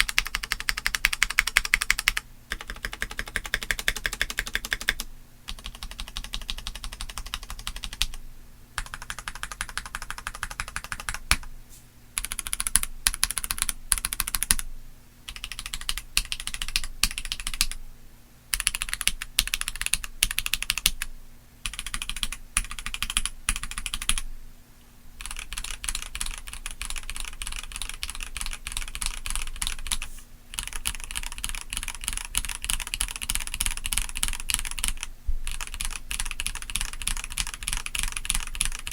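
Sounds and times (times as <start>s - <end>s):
typing on mechanical keyboard: 0.0s - 8.2s, 8.8s - 11.5s, 12.2s - 14.6s, 15.3s - 17.8s, 18.6s - 24.2s, 25.2s - 38.9s.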